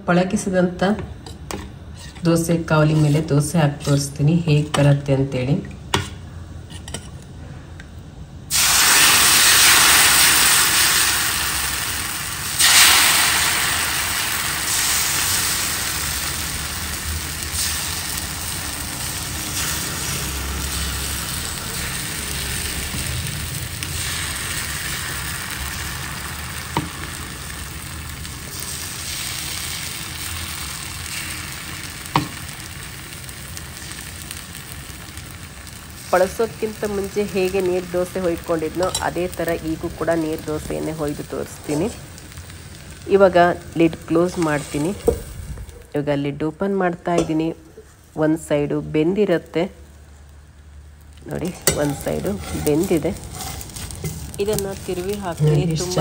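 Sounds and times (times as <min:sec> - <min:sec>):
batter sizzling on a hot pan: 0:01.3 - 0:05.3, 0:08.5 - 0:56.0.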